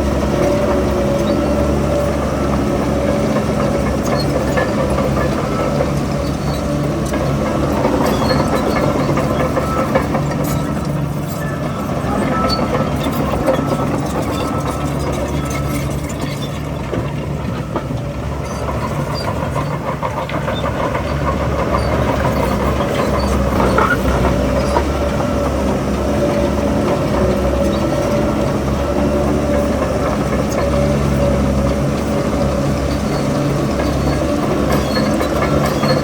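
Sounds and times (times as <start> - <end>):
bulldozer diesel engine: 0.0 - 36.0
steel tracks clanking: 0.0 - 36.0.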